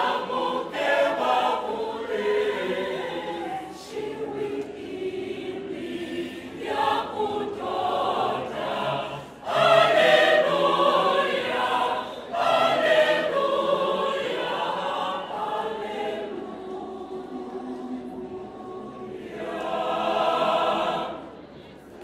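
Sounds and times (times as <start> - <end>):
large choir singing: 0.0 - 22.0.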